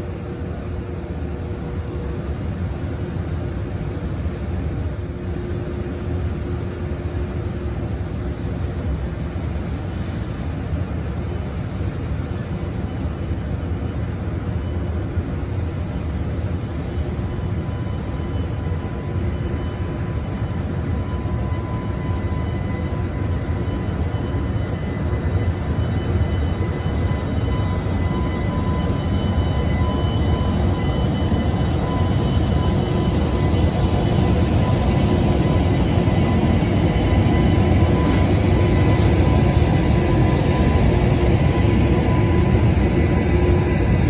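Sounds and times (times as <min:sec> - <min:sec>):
thin steady whine: 0:00.0 - 0:44.0.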